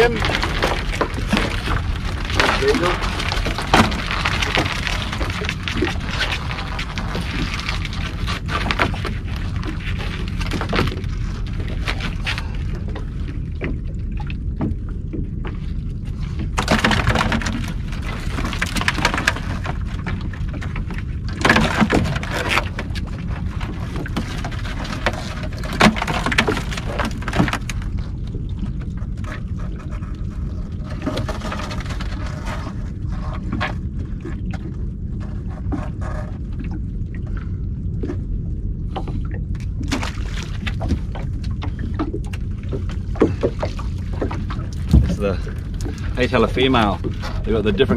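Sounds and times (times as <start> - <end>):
crabs knocking and rattling: 0.0 - 13.8, 16.3 - 28.4, 29.0 - 33.8, 38.9 - 47.9
low rumble of wind and water: 0.0 - 47.9.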